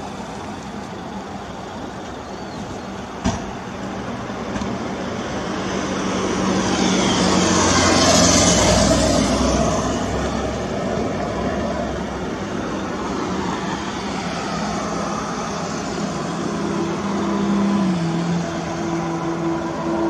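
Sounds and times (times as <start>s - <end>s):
train rumbling over bridge: 0.0s - 20.0s.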